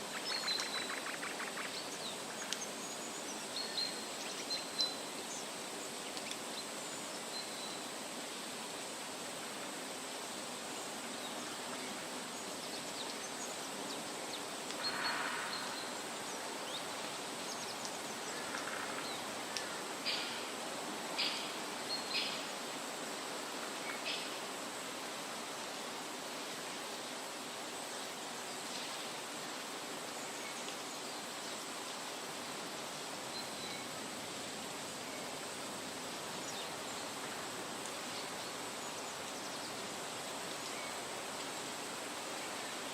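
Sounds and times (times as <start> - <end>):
steady outdoor hiss: 0.0 - 42.9.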